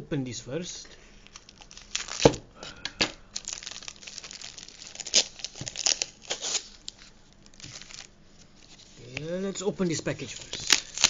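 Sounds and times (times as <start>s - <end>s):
plastic wrapping crinkling: 1.0s - 11.0s.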